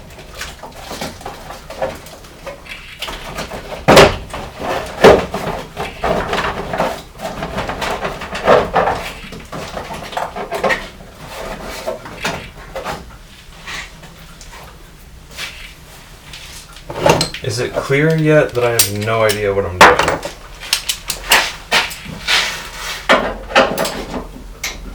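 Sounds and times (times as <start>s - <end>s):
knocks and rattles of engine parts: 0.0s - 15.8s, 16.4s - 24.9s.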